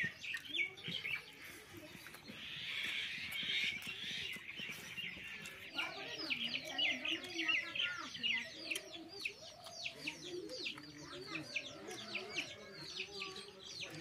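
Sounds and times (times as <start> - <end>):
chickens clucking: 0.0 - 14.0
small birds chirping: 0.0 - 14.0.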